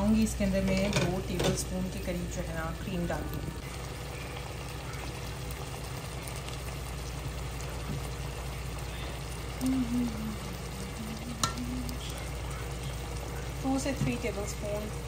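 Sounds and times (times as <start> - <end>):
curry bubbling in pot: 0.1 - 15.0.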